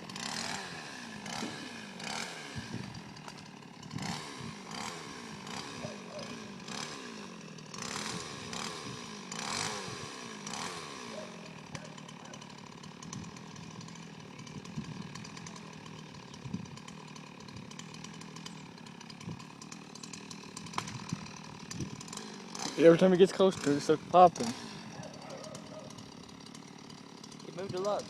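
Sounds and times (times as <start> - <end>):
chainsaw revving and idling: 0.0 - 28.0.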